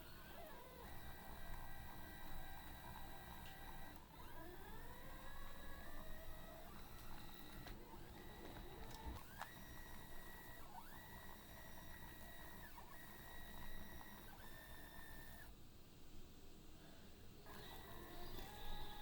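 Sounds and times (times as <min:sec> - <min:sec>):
stepper motors whining: 0:00.0 - 0:15.5, 0:17.4 - 0:19.0.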